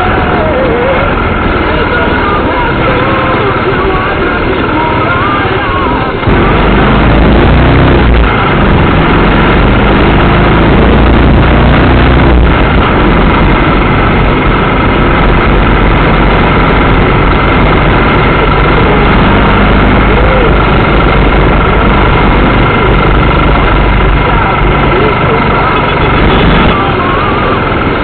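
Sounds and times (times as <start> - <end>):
deep low rumble: 0.0 - 28.0
motorcycle engine running: 0.0 - 28.0
steady noise: 0.0 - 28.0.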